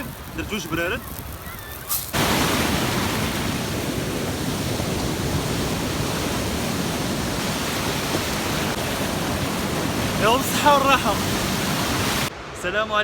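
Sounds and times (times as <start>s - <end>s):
sea surf: 0.0s - 13.0s
wind: 0.0s - 13.0s.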